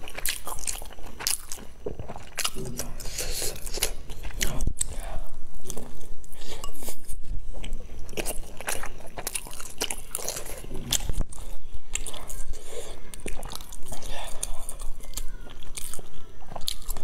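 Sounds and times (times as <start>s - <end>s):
person chewing soft food: 0.0s - 17.0s.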